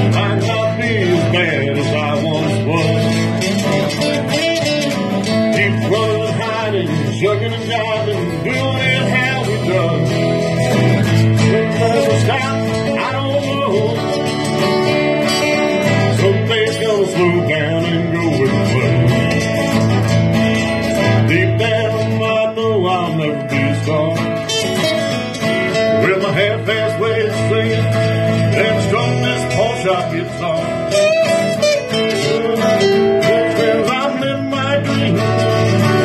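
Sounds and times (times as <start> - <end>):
acoustic guitars strummed and picked: 0.0 - 36.0.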